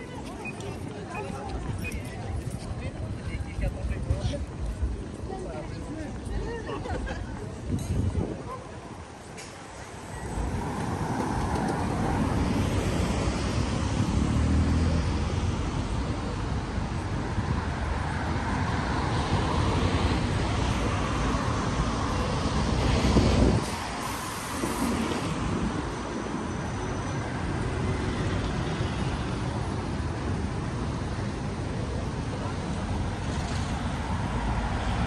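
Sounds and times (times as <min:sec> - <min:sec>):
bus engine rumbling: 0:00.0 - 0:17.9, 0:18.8 - 0:35.0
passing cars and tyre noise: 0:00.0 - 0:35.0.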